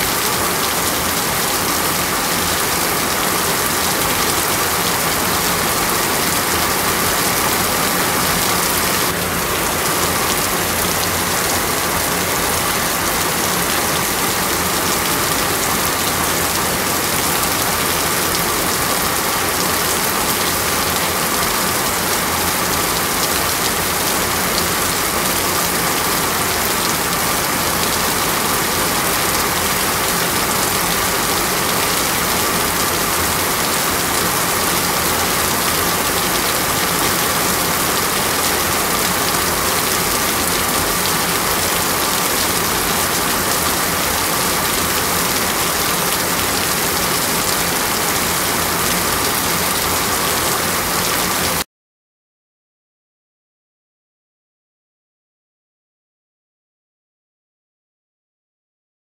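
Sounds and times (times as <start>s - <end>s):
rain on a flooded street: 0.0s - 51.6s.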